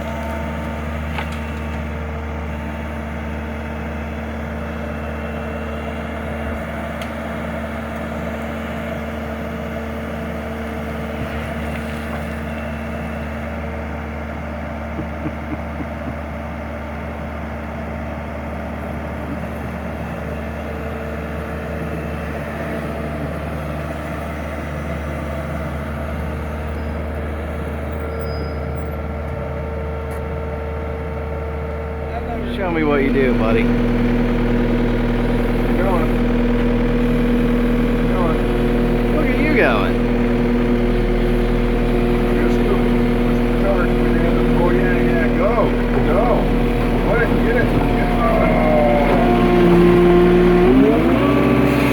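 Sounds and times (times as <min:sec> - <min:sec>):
loader engine droning: 0:00.0 - 0:51.9.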